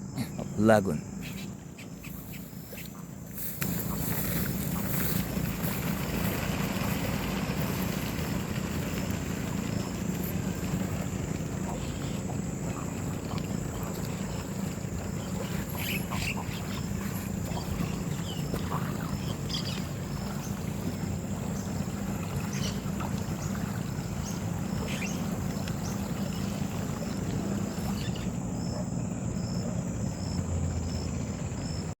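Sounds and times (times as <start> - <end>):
low engine drone: 0.0 - 32.0.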